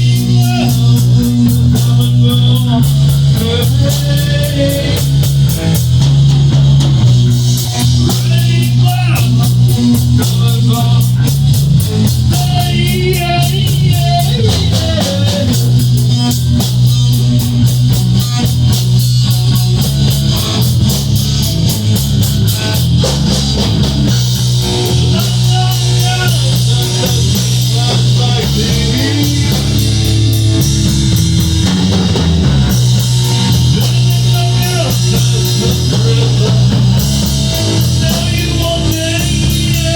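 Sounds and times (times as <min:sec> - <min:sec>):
bass line: 0:00.0 - 0:39.9
drum kit with busy cymbals: 0:00.0 - 0:39.9
electric guitar: 0:00.0 - 0:39.9.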